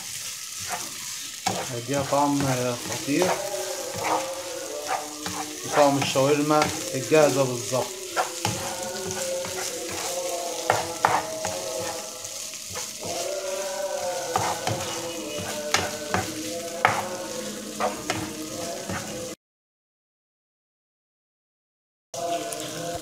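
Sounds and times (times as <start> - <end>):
spatula scraping and tapping pan: 0.0 - 19.3
chicken sizzling in oil: 0.0 - 19.4, 22.2 - 23.0.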